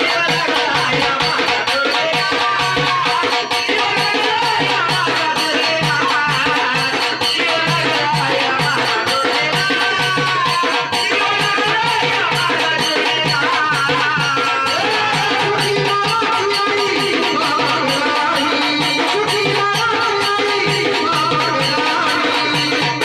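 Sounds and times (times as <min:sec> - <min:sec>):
repeating drum beat: 0:00.0 - 0:23.0.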